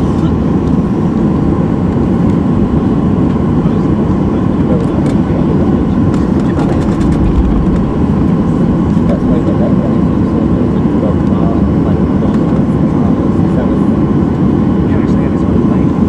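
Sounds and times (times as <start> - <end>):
faint steady engine whine: 0.0 - 16.0
jet engine cabin rumble: 0.0 - 16.0.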